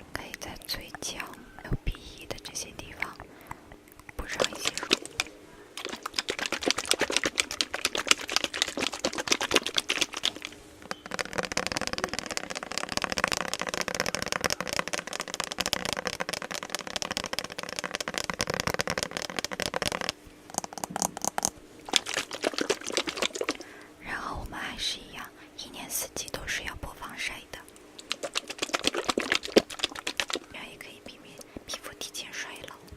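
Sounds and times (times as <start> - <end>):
lotion crackling between fingers: 0.2 - 23.8, 27.0 - 32.9.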